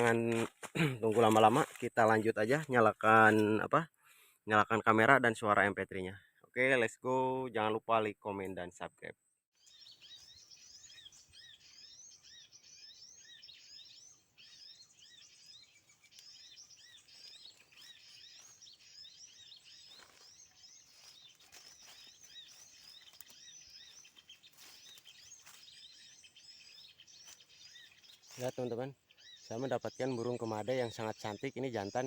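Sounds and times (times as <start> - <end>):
recorded bird calls from phone speaker: 4.7 - 32.0.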